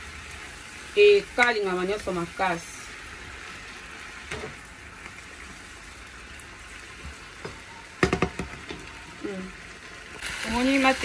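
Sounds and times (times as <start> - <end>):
leaves sizzling in a wok: 0.0 - 11.0.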